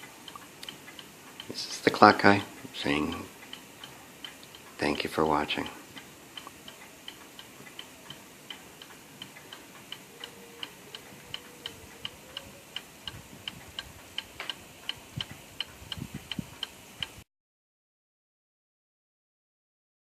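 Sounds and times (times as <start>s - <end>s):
clock ticking: 0.0s - 17.2s.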